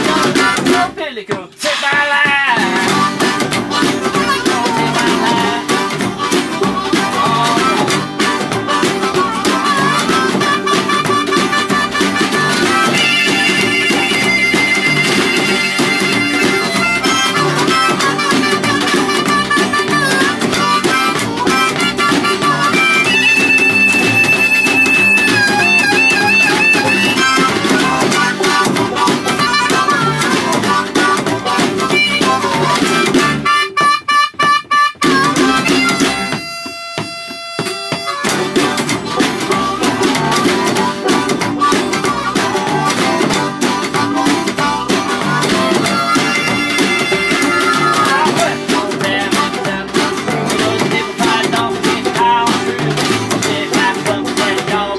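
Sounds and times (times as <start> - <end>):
harmonica wavering high notes: 0.0 - 0.8, 2.6 - 54.9
string band playing: 0.0 - 54.9.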